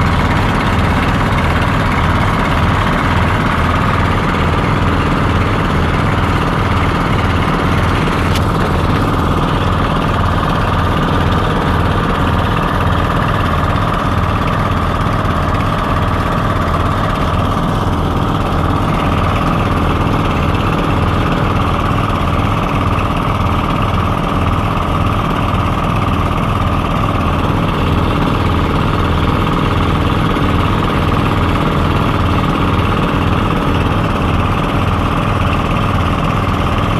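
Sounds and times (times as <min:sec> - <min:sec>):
boat engine droning: 0:00.0 - 0:36.9.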